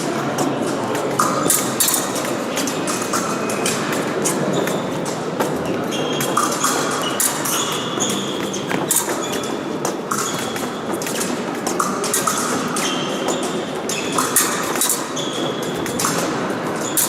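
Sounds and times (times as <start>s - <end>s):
shoes squeaking on floor: 0.0s - 17.0s
sports hall noise: 0.0s - 17.0s.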